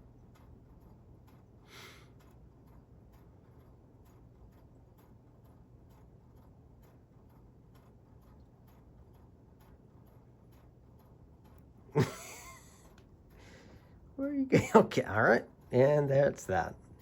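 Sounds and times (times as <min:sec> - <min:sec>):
faint even ticking: 0:00.0 - 0:17.0.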